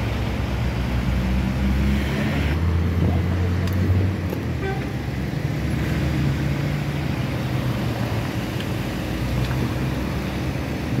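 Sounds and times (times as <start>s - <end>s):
road traffic driving past: 0.0s - 11.0s.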